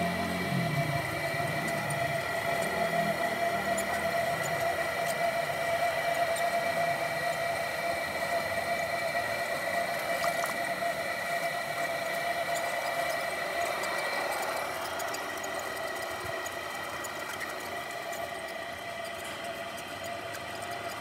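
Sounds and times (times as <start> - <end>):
potter's wheel motor whine: 0.0 - 21.0.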